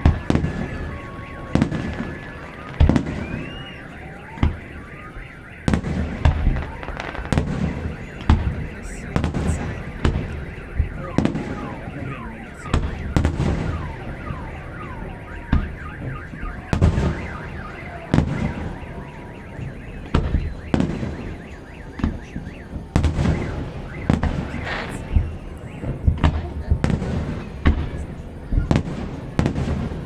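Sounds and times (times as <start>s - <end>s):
car alarm wailing and chirping: 0.0s - 30.0s
fireworks bursting with bangs: 0.0s - 30.0s.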